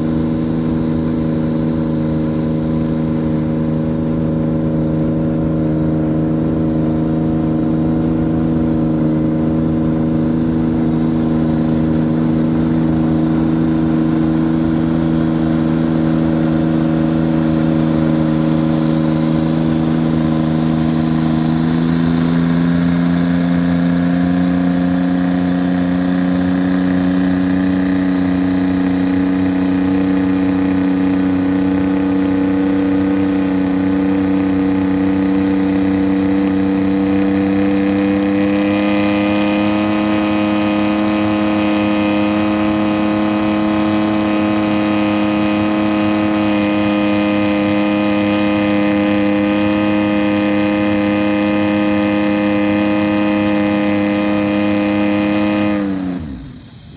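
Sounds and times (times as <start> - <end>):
engine running at high rpm: 0.0 - 56.9.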